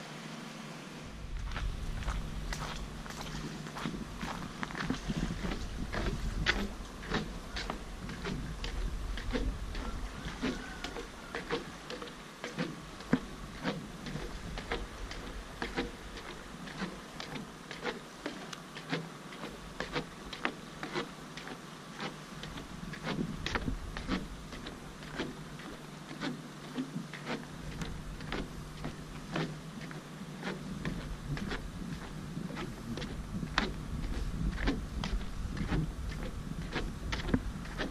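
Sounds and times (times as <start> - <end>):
footsteps on wooden planks: 1.1 - 37.9.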